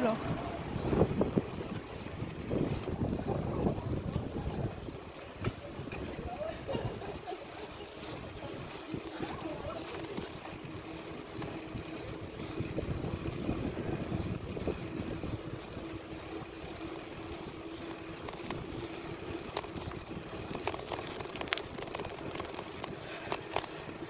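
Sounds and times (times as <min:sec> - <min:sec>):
road and tyre noise: 0:00.0 - 0:24.0
wind buffeting microphone: 0:00.0 - 0:24.0.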